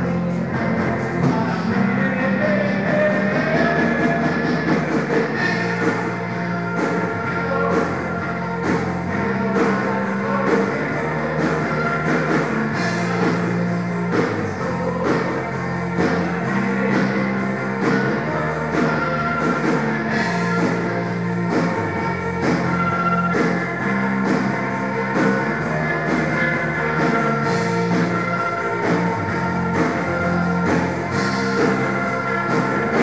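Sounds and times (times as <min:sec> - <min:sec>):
bass guitar low notes: 0:00.0 - 0:33.0
rock band playing live: 0:00.0 - 0:33.0.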